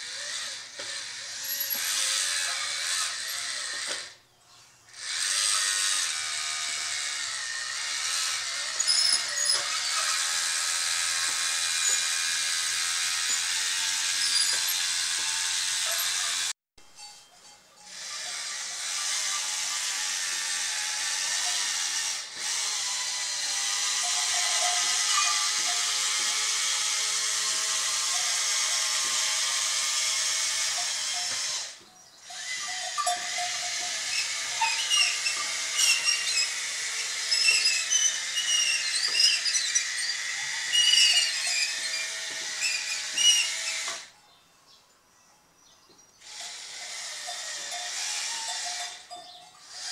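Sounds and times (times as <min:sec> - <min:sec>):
high squeaks: 0:00.0 - 0:04.2, 0:05.0 - 0:29.8, 0:30.7 - 0:44.2, 0:46.2 - 0:49.9
electric motors whining: 0:00.0 - 0:16.6, 0:17.8 - 0:44.2, 0:46.2 - 0:49.9.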